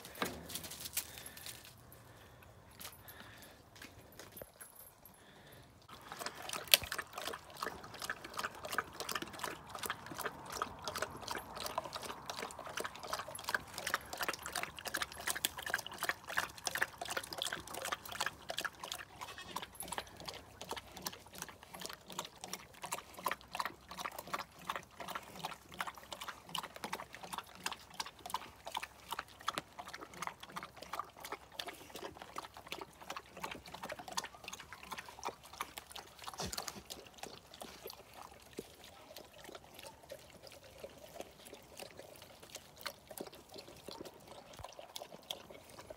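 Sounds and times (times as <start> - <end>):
dog crunching a bone: 5.9 - 45.9.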